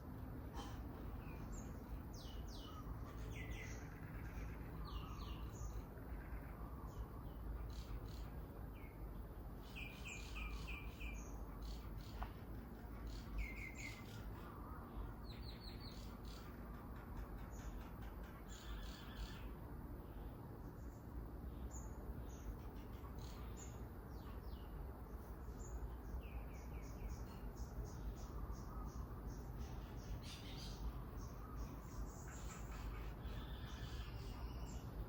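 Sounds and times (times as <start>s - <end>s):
low background rumble: 0.0s - 35.0s
small birds chirping: 0.0s - 35.0s.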